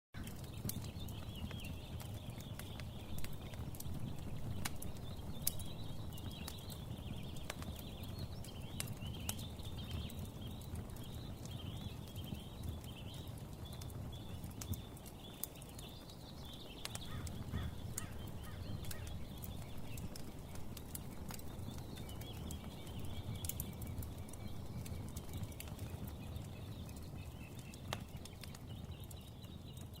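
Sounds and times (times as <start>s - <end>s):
birds chirping: 0.2s - 30.0s
fire crackling and popping: 0.2s - 30.0s.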